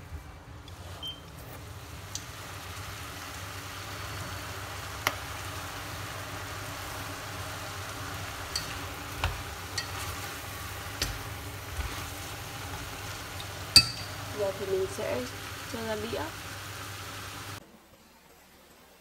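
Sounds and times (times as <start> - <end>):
food sizzling in a pot: 0.8 - 17.6.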